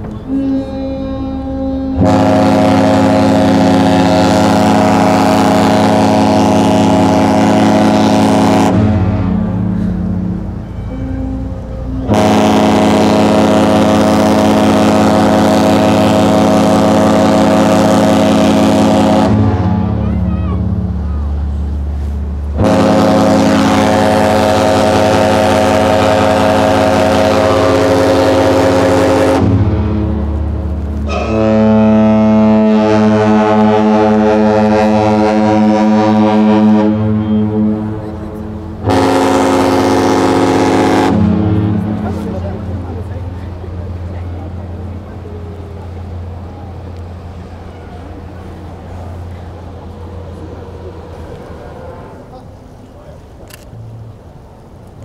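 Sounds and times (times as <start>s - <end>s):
ship's horn blast: 0.0s - 52.8s.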